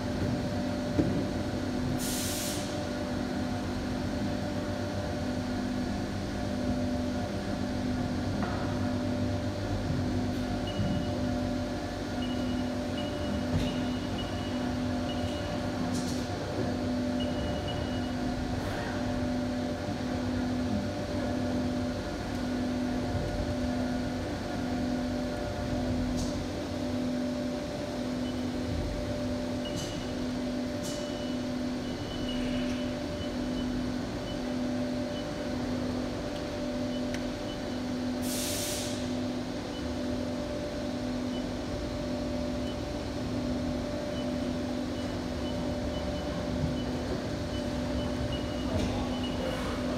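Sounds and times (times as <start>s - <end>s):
machine hum with pulsing drone: 0.0s - 49.9s.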